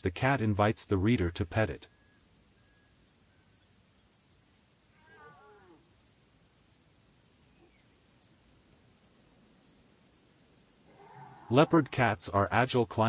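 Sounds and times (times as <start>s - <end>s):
high insect-like chirping: 1.2s - 11.9s.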